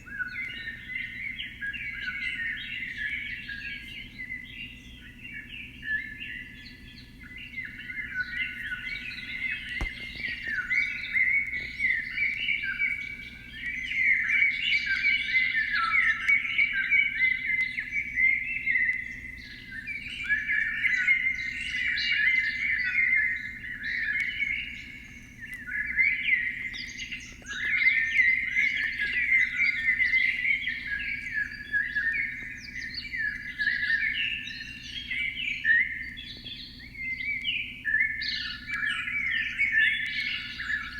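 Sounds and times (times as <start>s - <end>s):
faint low hum: 0.0s - 40.9s
small birds chirping: 0.0s - 40.9s.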